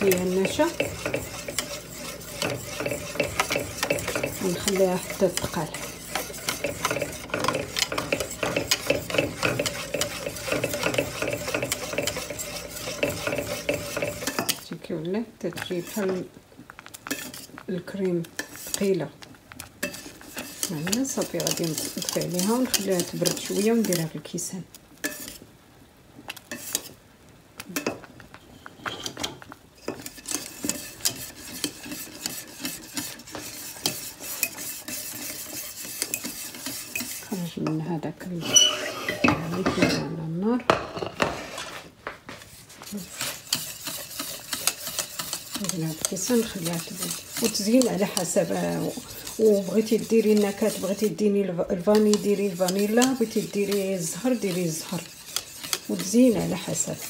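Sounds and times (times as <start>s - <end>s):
whisk scraping a metal pot: 0.0s - 14.7s, 15.5s - 24.2s, 25.0s - 25.5s, 26.3s - 27.0s, 27.8s - 57.0s.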